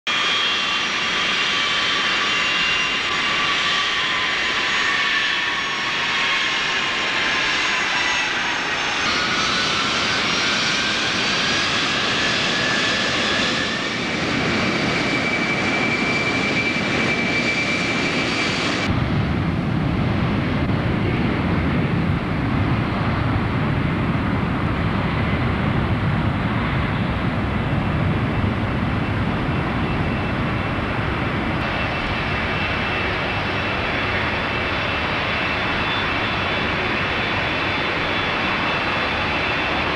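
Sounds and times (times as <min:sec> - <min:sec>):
jet engines rumbling at takeoff: 0:00.1 - 0:39.9
jet engines whining: 0:00.1 - 0:39.9.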